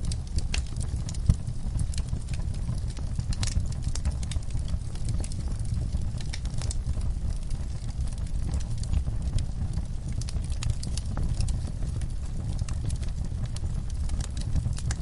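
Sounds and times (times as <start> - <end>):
low rumble of flame: 0.0 - 15.0
wood fire crackling and popping: 0.0 - 15.0.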